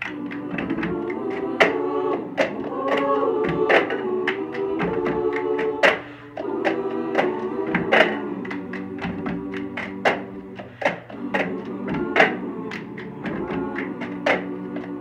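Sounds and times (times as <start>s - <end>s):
a cappella group singing: 0.0s - 15.0s.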